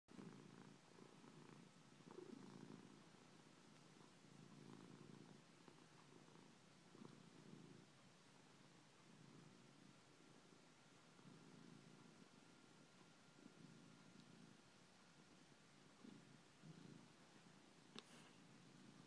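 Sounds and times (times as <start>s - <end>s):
cat purring softly: 0.1s - 19.0s.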